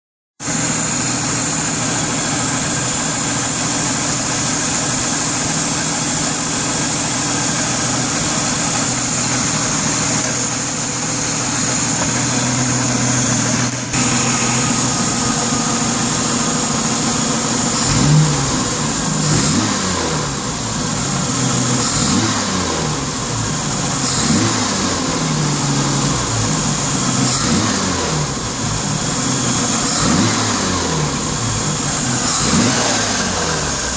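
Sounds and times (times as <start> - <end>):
engine idling and revving: 0.4 - 33.9
engine rattle: 0.4 - 33.9.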